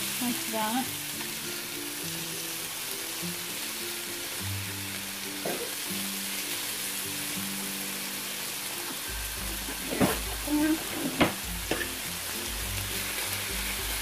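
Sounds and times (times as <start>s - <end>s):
background music: 0.0s - 14.0s
chicken sizzling on a griddle: 0.0s - 14.0s.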